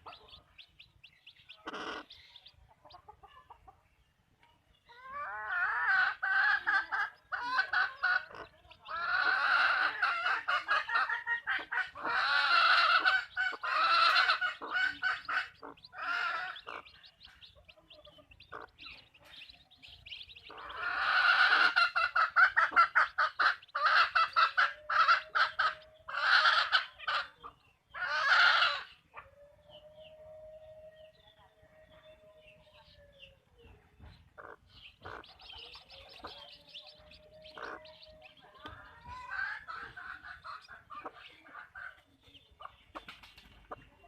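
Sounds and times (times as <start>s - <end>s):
hens clucking: 0.0s - 4.0s, 4.9s - 29.3s, 33.6s - 44.0s.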